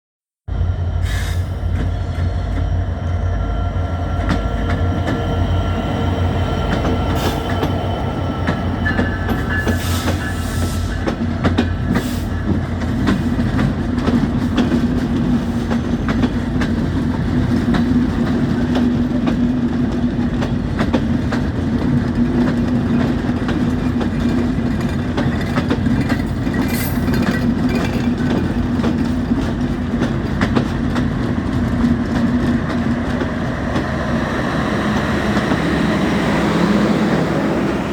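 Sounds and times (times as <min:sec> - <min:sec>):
train rumbling on rails: 0:00.5 - 0:37.9
rattle of train wheels: 0:00.7 - 0:37.9.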